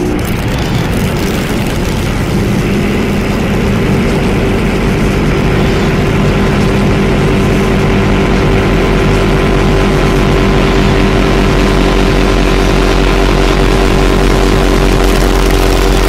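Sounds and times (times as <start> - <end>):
harsh noise music: 0.0 - 16.0
low droning tones: 0.0 - 16.0.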